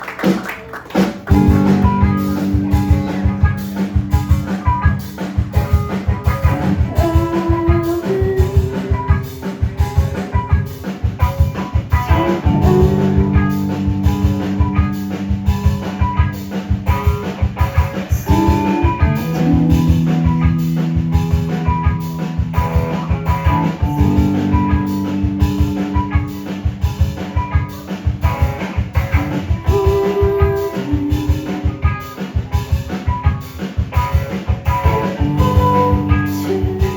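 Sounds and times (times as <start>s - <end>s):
drum kit beat: 0.0s - 36.9s
guitar chords: 1.3s - 36.9s.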